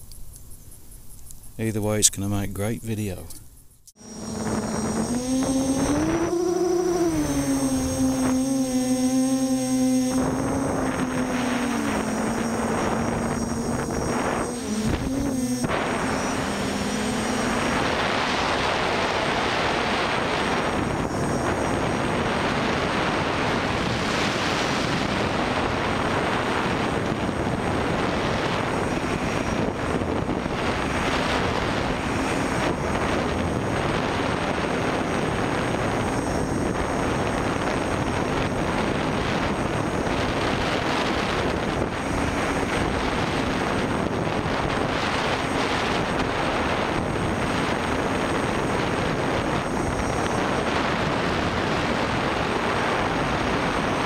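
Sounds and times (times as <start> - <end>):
drone motors whining: 3.9 - 52.6.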